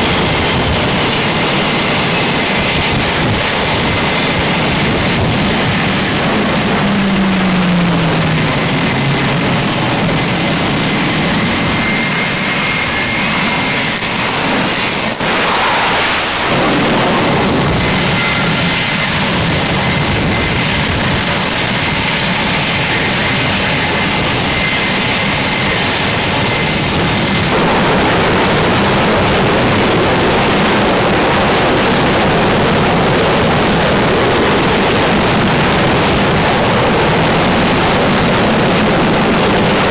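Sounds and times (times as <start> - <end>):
jet engines rushing and whining: 0.0 - 39.9.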